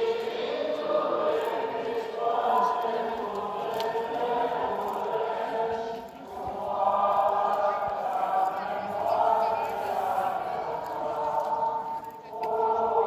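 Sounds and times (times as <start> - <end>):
choir chanting a hymn: 0.0 - 13.0.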